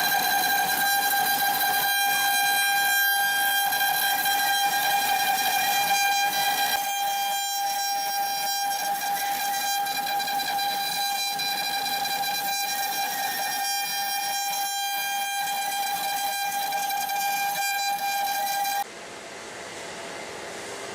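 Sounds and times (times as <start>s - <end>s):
cnc machine high-pitched whine: 0.0s - 18.8s.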